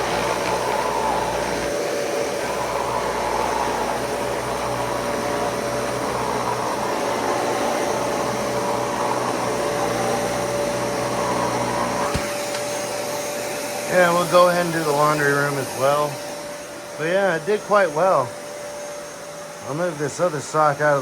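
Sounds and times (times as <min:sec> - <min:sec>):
vacuum cleaner whine: 0:00.0 - 0:21.0.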